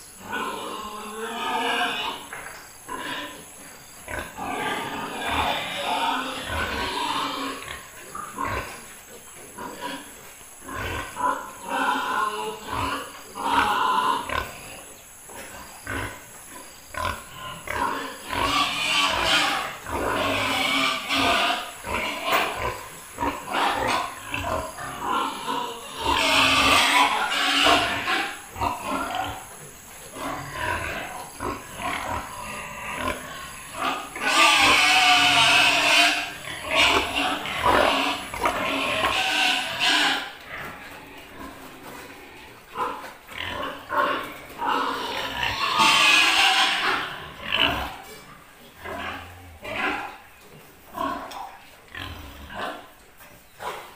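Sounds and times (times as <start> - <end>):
pigs squealing: 0.1 - 8.8, 9.6 - 52.9
pigs grunting: 0.2 - 53.0.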